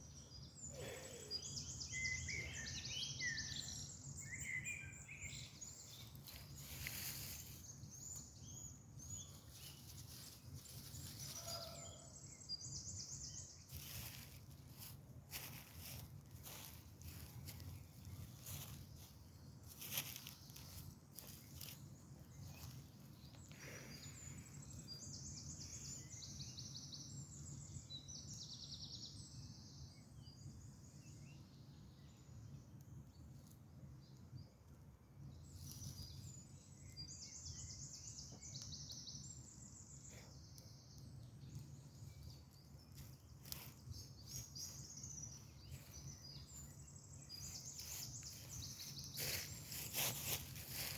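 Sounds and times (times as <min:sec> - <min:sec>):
songbirds trilling: 0:00.0 - 0:32.3, 0:35.4 - 0:50.9.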